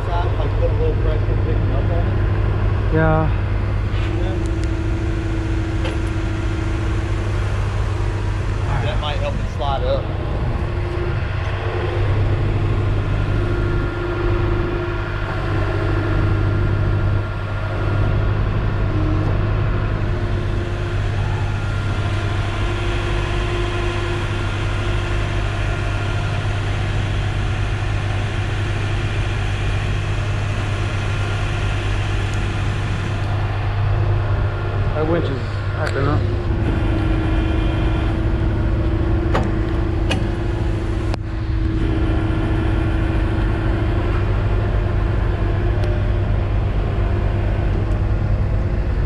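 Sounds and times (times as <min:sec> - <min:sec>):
truck engine idling: 0:00.0 - 0:49.0.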